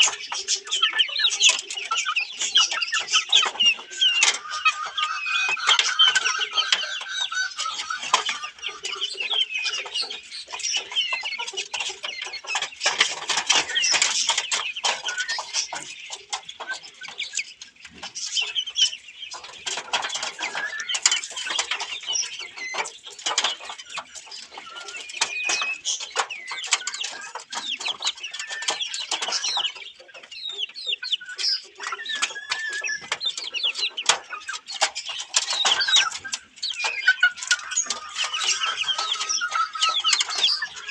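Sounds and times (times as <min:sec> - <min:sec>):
chickens clucking and calling: 0:00.0 - 0:40.9.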